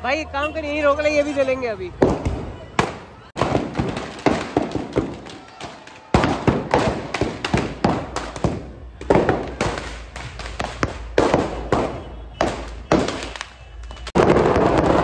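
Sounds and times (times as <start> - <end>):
firecrackers banging: 1.9 - 15.0.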